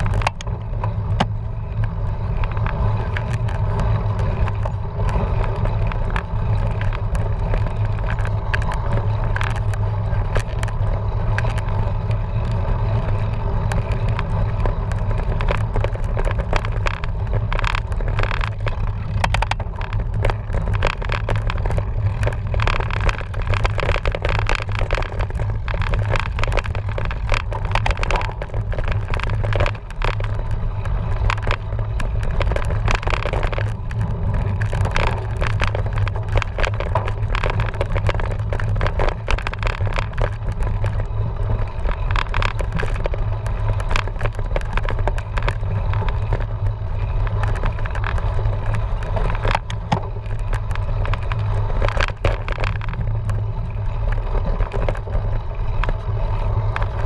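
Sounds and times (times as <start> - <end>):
bike rattling over bumps: 0.0 - 57.0
bike tyres and wind rumbling: 0.0 - 57.0.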